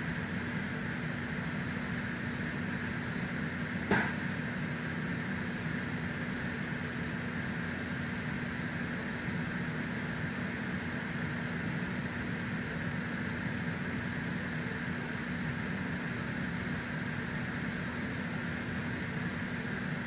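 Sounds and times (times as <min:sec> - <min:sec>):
steady mechanical hum with hiss: 0:00.0 - 0:20.0.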